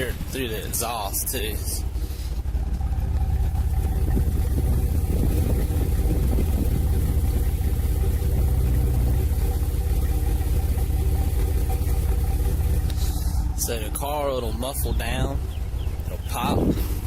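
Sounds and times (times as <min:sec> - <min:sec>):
car engine idling with misfire: 0:00.0 - 0:17.0.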